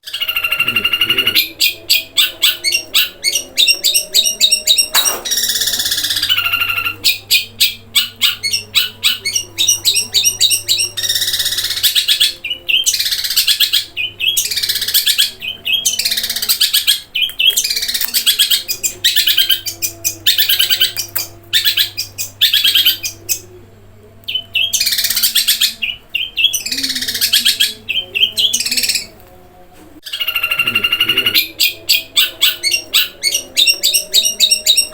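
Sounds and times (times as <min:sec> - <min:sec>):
bird singing: 0:00.0 - 0:23.6, 0:24.2 - 0:29.2, 0:30.0 - 0:34.9.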